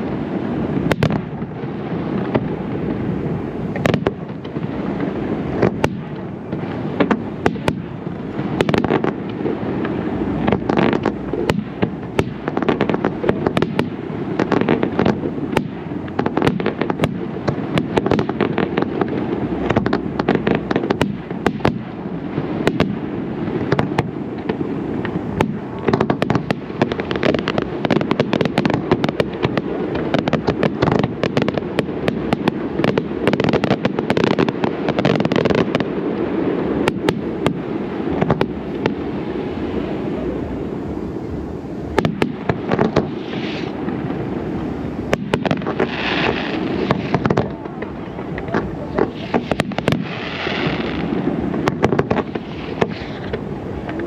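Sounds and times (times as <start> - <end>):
low wash of sound: 0.0 - 35.0, 35.6 - 54.0
fireworks bursting: 0.0 - 54.0.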